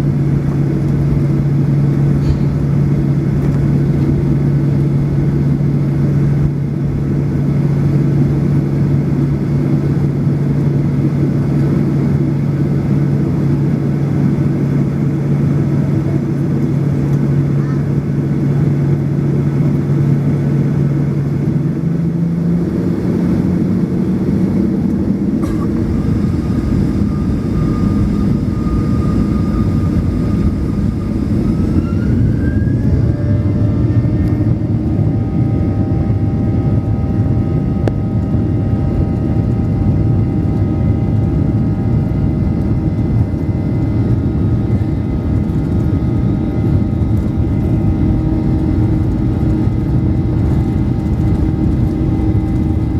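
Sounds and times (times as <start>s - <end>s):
jet engine rumble and whine: 0.0s - 52.9s.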